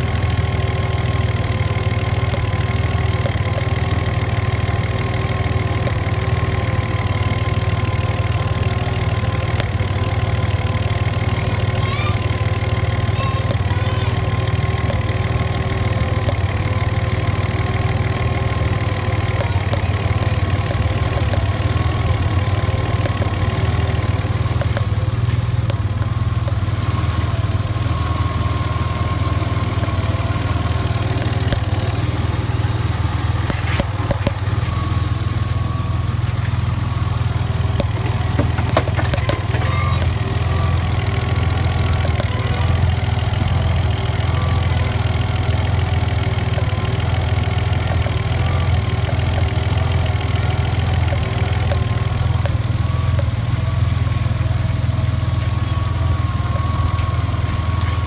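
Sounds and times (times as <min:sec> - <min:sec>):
car engine idling: 0:00.0 - 0:58.0
engine pops: 0:00.0 - 0:58.0.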